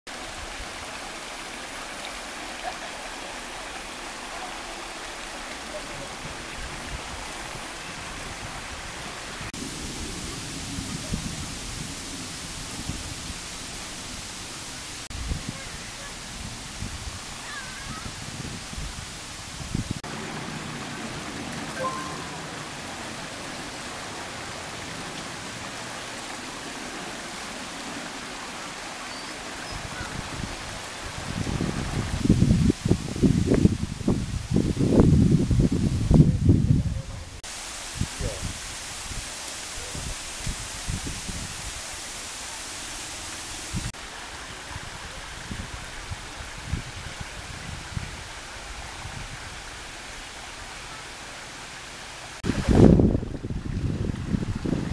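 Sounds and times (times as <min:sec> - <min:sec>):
flowing river water: 0:00.1 - 0:36.2, 0:36.9 - 0:54.9.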